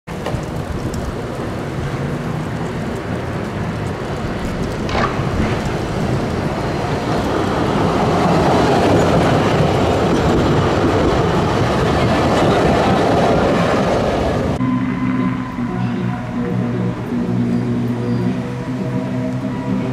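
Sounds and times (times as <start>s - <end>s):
tram rumbling on rails: 0.1s - 19.9s.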